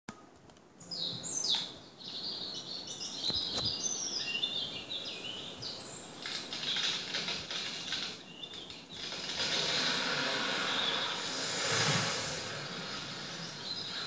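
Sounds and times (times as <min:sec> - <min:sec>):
birds chirping and trilling: 0:00.8 - 0:14.0.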